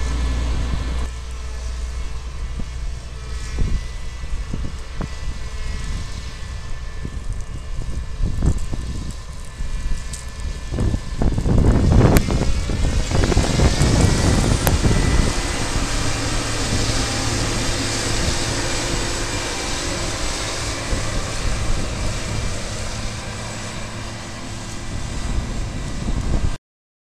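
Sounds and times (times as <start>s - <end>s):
combine harvester running: 0.0s - 26.6s.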